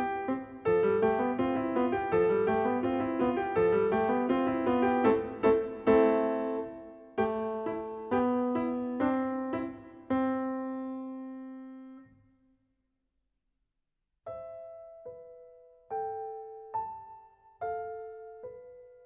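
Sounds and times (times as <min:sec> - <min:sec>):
slow piano tune: 0:00.0 - 0:12.4, 0:14.3 - 0:19.0.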